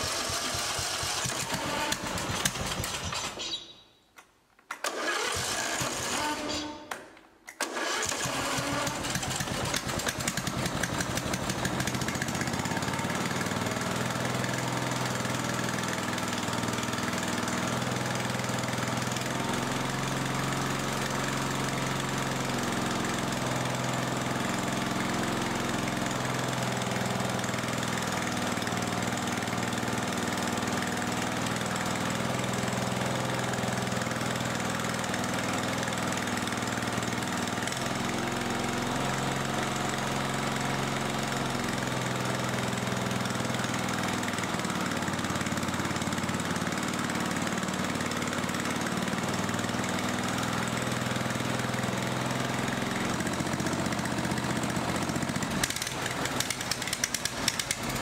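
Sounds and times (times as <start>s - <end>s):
mower engine running: 0.0s - 3.6s, 4.8s - 6.9s, 7.6s - 58.0s.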